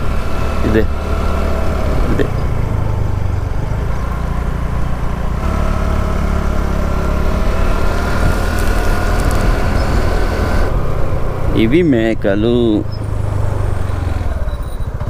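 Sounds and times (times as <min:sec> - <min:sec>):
motorbike engine rumbling: 0:00.0 - 0:15.0.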